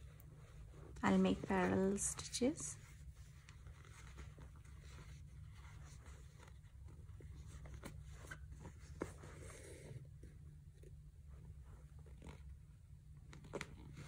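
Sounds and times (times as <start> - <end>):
low steady hum: 0.0 - 14.0
needle and thread rustling through fabric: 0.0 - 14.0.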